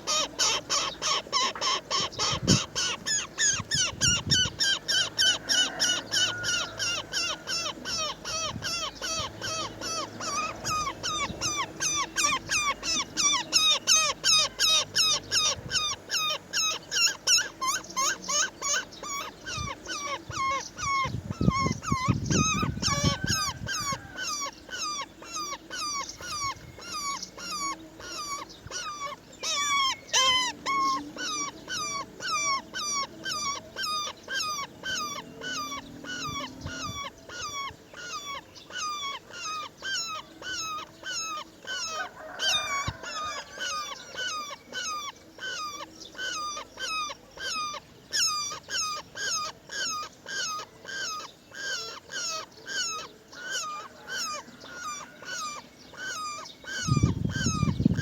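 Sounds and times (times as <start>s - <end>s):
nestlings begging calls: 0.0s - 58.0s.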